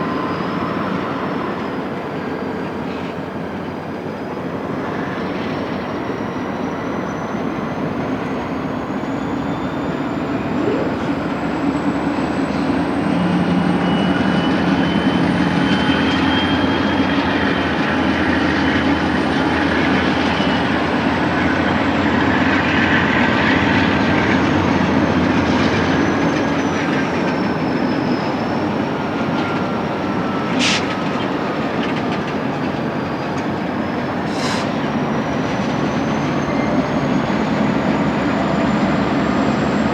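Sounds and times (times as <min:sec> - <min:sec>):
locomotive engine rumble: 0:00.1 - 0:39.9
faint thin wheel squeals: 0:05.1 - 0:21.5, 0:24.2 - 0:39.9.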